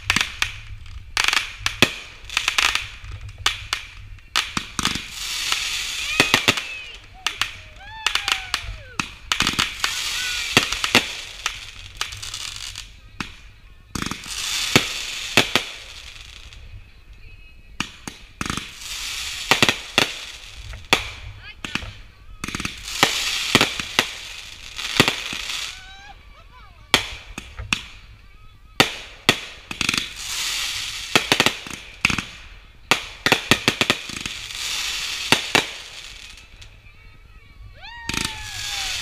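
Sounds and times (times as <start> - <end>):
firework bangs: 0.0 - 16.7, 17.8 - 36.8, 37.9 - 39.0
firework crackling: 0.0 - 39.0.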